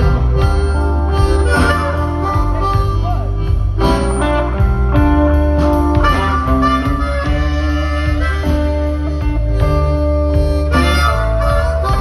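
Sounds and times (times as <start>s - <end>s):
amplified harmonica: 0.0s - 12.0s
blues band playing: 0.0s - 12.0s.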